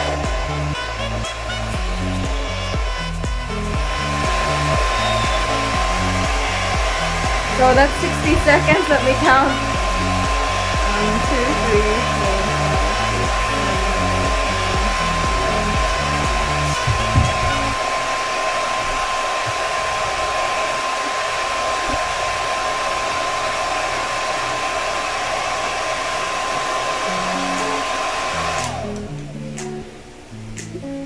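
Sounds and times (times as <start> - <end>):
hair dryer whining: 0.0 - 29.4.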